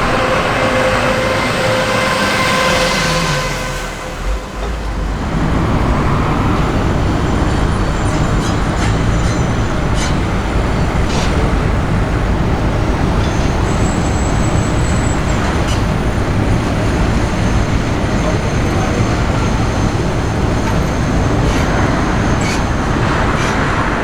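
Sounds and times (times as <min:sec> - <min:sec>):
car driving on road: 0:00.0 - 0:24.0.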